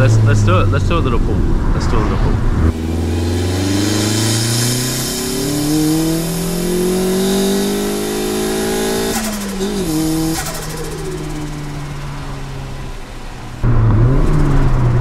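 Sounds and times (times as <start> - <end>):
turbocharged car engine revving: 0.0 - 15.0.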